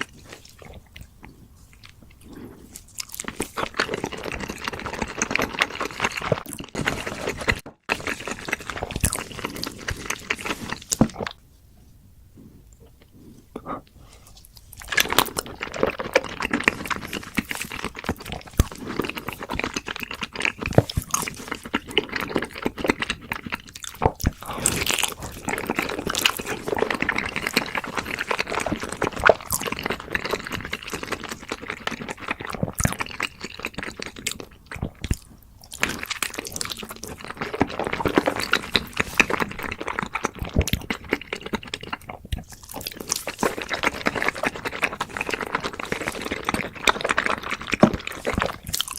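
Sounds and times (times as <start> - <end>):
mouth clicks and smacks: 0.0 - 11.4, 12.3 - 48.9
wet chewing and crunching: 0.0 - 11.4, 12.4 - 48.9.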